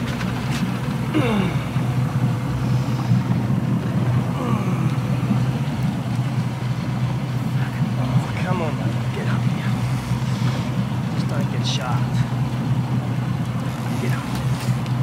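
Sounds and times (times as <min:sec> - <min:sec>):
outboard motor running: 0:00.0 - 0:15.0
water washing along hull: 0:00.0 - 0:15.0.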